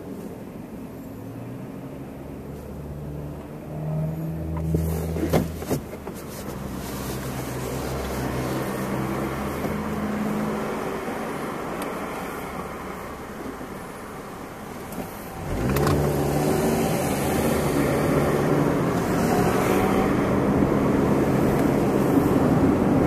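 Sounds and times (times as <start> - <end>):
car engine from inside cabin: 0.0 - 23.0
road noise: 0.0 - 23.0.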